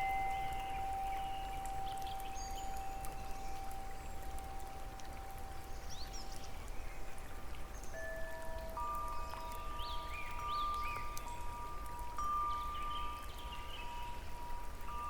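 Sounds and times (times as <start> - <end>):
wind chime ringing: 0.0 - 6.2, 7.9 - 15.0
running water: 0.0 - 15.0.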